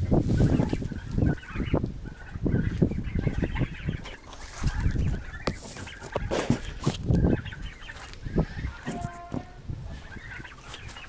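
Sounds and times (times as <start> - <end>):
poultry clucking: 0.0 - 11.0.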